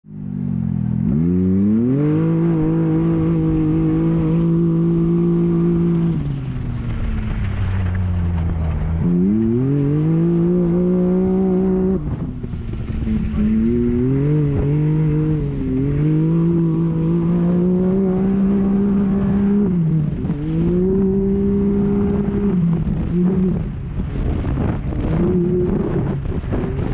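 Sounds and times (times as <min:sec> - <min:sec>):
race vehicle engine revving: 0:00.1 - 0:26.9
hiss of wind and dirt: 0:00.7 - 0:26.9.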